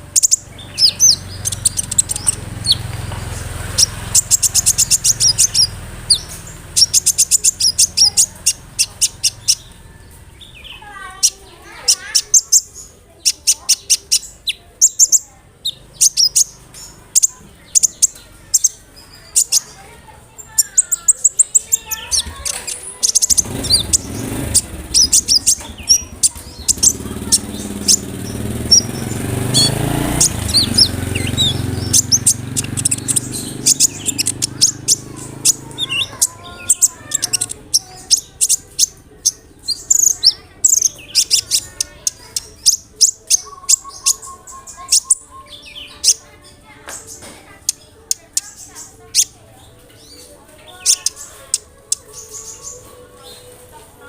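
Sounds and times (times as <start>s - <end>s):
sunbird chirps and trills: 0.0s - 53.6s.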